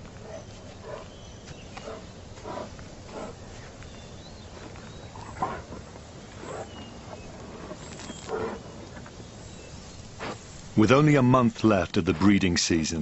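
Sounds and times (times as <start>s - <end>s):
low rumble of herd: 0.0s - 12.4s
walruses grunting and bellowing: 0.1s - 10.5s.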